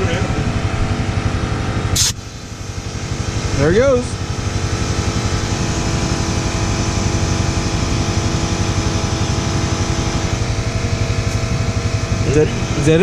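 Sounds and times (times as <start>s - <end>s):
small motor running: 2.0s - 13.0s.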